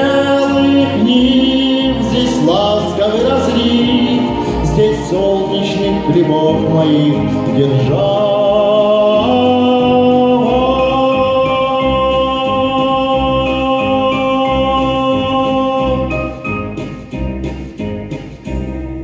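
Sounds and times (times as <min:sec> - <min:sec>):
backing track music: 0:00.0 - 0:19.0.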